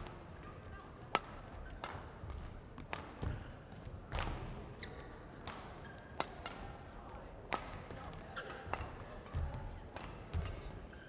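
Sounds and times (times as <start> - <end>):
low hum of indoor hall: 0.0 - 11.0.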